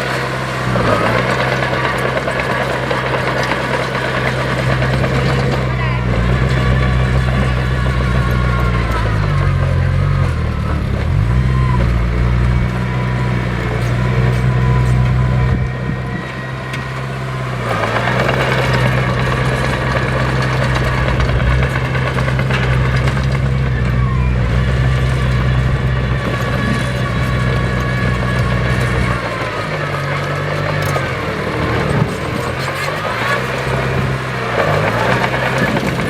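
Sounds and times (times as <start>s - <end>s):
heavy diesel machinery engine: 0.0s - 36.0s.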